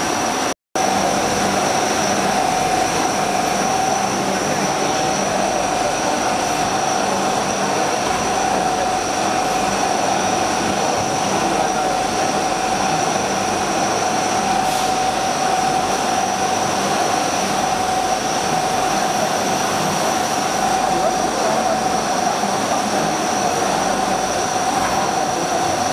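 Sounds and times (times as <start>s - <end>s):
spindle whine: 0.0s - 25.9s
coolant spray hiss: 0.3s - 25.9s.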